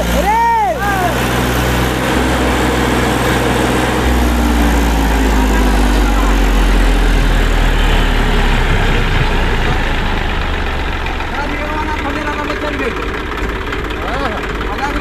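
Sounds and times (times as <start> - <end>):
tractor diesel engine straining: 0.0 - 15.0.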